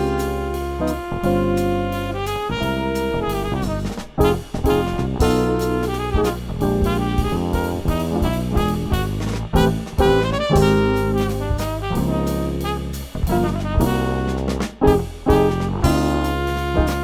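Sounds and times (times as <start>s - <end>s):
double bass: 0.0s - 17.0s
drum kit with cymbals: 0.0s - 17.0s
trumpet melody: 0.0s - 17.0s.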